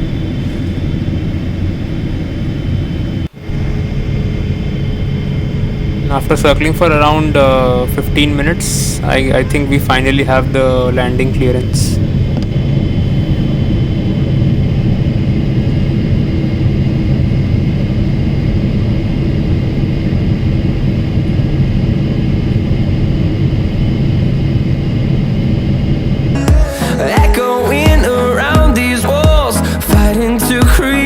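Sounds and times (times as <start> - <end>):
air rushing over fuselage: 0.0 - 31.0
jet engines humming: 0.0 - 31.0.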